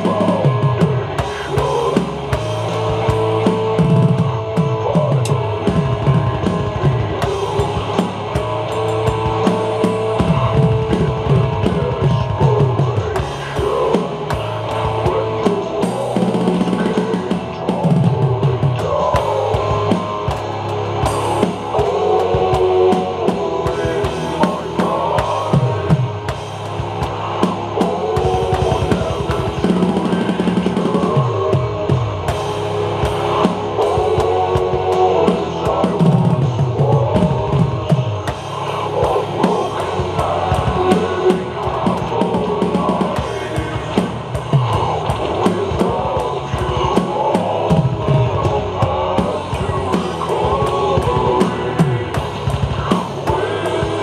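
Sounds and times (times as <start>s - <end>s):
drum and cymbal hits: 0.0s - 54.0s
recorded rock song: 0.0s - 54.0s.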